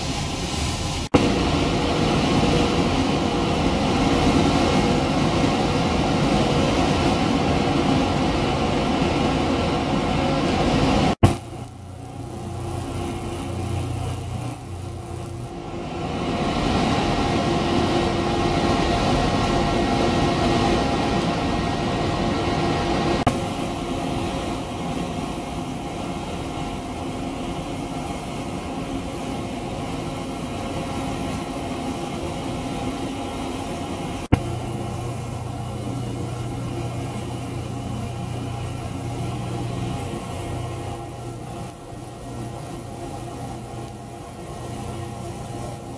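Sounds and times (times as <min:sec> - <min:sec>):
constant tones: 0:00.0 - 0:45.9
high whine: 0:00.0 - 0:45.9.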